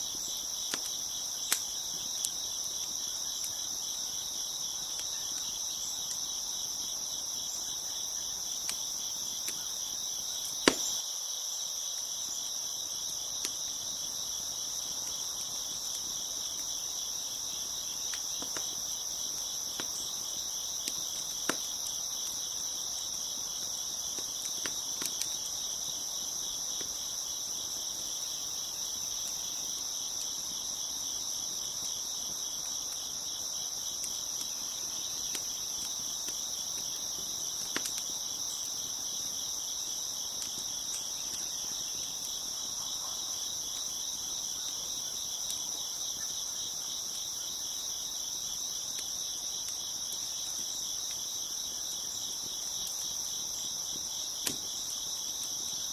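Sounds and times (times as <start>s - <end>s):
wood fire popping and crackling: 0.0s - 11.1s, 12.0s - 42.8s, 48.2s - 55.9s
crickets chirping: 0.0s - 55.9s.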